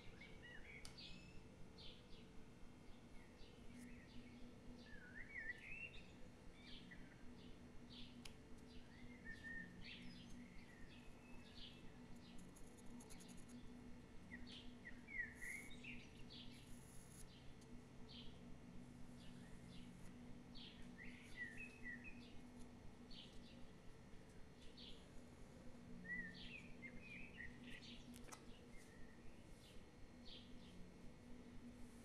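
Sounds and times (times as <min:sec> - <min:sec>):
faint bird chirps and warbles: 0:00.0 - 0:32.0
low steady hum: 0:00.0 - 0:32.0.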